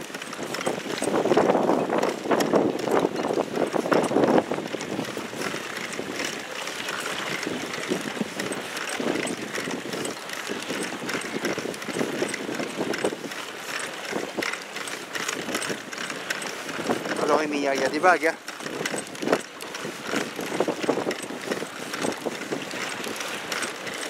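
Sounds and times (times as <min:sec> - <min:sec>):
wind noise: 0:00.0 - 0:06.4, 0:07.1 - 0:13.3, 0:15.3 - 0:18.0, 0:18.6 - 0:23.6
waves slapping against boat hull: 0:00.0 - 0:24.0.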